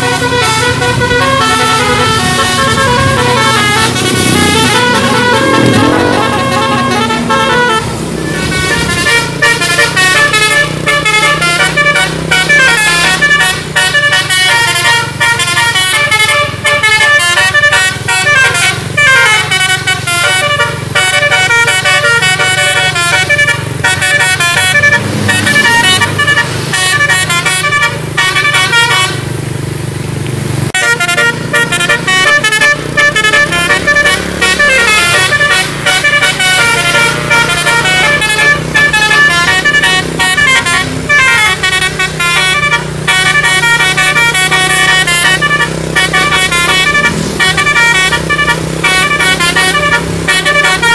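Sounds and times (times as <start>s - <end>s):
multi-tone bus horn melody: 0.0s - 29.5s, 30.7s - 50.9s
bus engine running: 0.0s - 50.9s.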